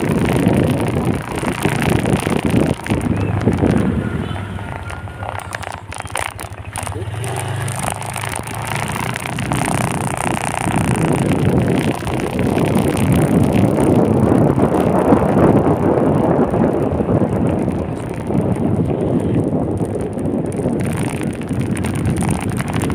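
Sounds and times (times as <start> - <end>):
vehicle and road noise: 0.0 - 22.9
wind rushing over microphone: 0.0 - 22.9.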